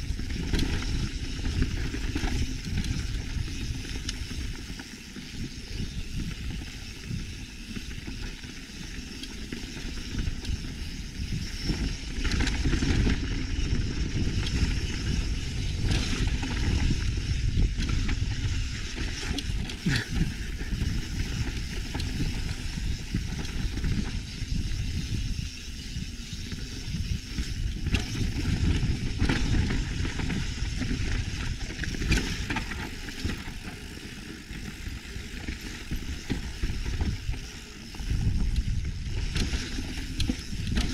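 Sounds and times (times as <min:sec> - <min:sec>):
bike knocking and rattling on rocks: 0:00.0 - 0:40.9
bike tyres crunching over stones: 0:00.0 - 0:40.9.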